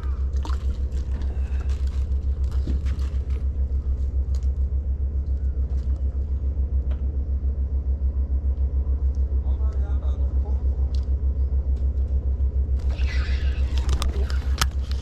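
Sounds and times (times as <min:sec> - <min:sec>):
low pulsing rumble: 0:00.0 - 0:15.0.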